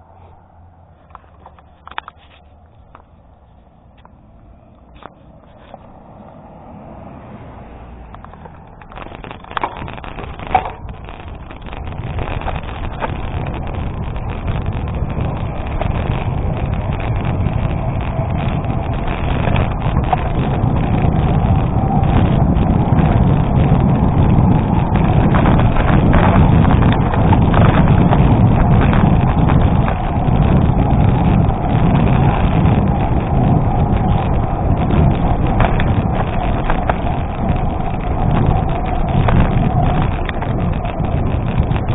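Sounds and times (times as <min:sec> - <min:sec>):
bike tyres rolling on gravel: 0:00.0 - 0:41.9
wind buffeting microphone: 0:00.0 - 0:41.9
bike knocking over rough ground: 0:08.2 - 0:41.9.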